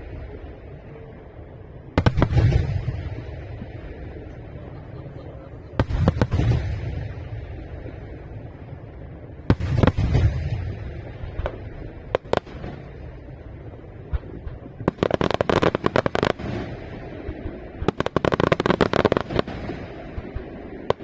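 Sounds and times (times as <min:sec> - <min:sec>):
low rolling echo: 0:00.0 - 0:21.0.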